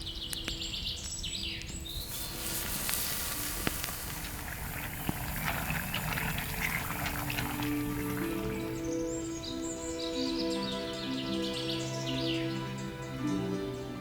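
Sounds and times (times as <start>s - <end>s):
crackling hiss with pops: 0.0s - 14.0s.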